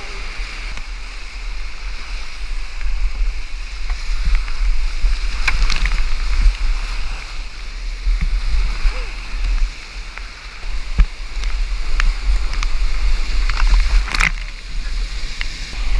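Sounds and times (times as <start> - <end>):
whitewater rapids roaring: 0.0 - 15.9.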